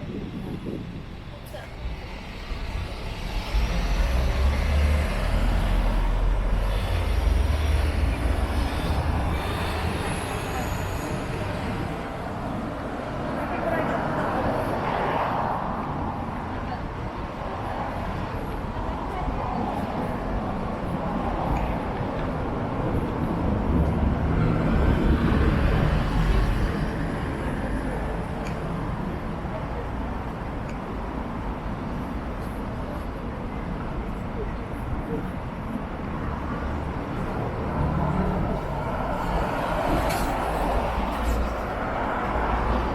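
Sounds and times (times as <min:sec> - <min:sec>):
road traffic passing: 0:00.0 - 0:42.9.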